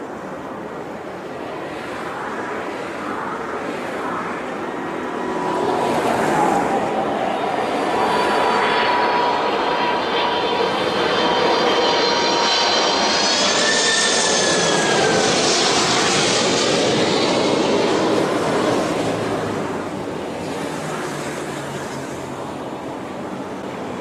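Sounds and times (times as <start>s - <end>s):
jet airliner engines whining: 0.0s - 24.0s.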